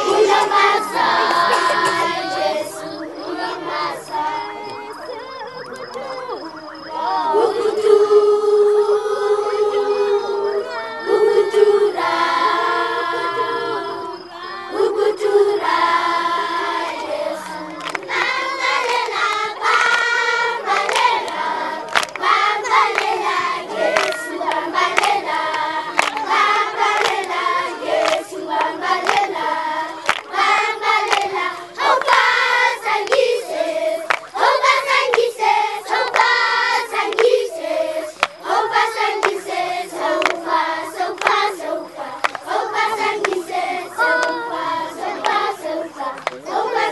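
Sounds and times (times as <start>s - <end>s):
rhythmic hand-clapping: 0.0s - 7.2s, 15.6s - 46.9s
group singing in chorus: 0.0s - 46.9s.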